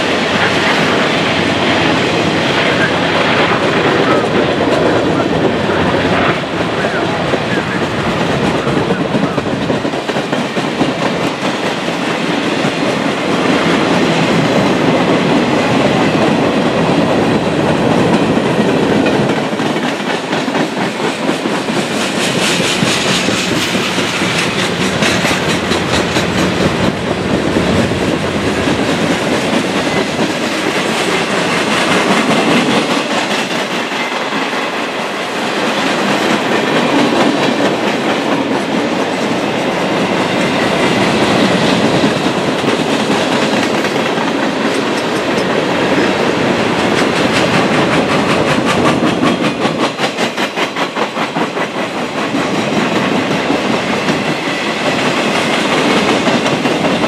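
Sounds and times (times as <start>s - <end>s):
clickety-clack over rail joints: 0.0s - 57.0s
freight train wheels rolling: 0.0s - 57.0s.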